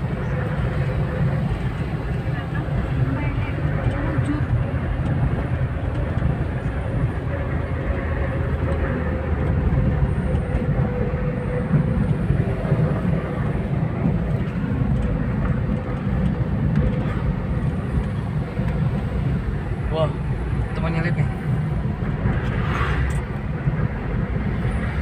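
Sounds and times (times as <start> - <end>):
vehicles driving on road: 0.0 - 25.0.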